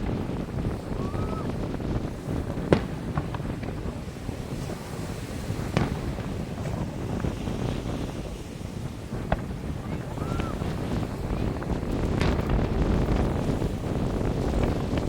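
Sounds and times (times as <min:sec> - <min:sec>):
firework bangs: 0:00.0 - 0:15.0
steady low rumble: 0:00.0 - 0:15.0
wind buffeting microphone: 0:00.0 - 0:15.0.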